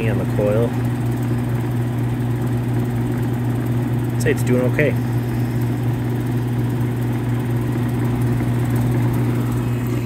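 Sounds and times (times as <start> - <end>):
air conditioner humming: 0.0 - 10.0
fan rushing: 0.0 - 10.0.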